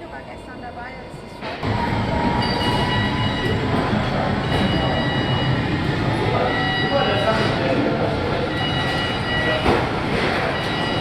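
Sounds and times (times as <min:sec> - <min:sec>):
high machine whines: 0:01.6 - 0:11.0.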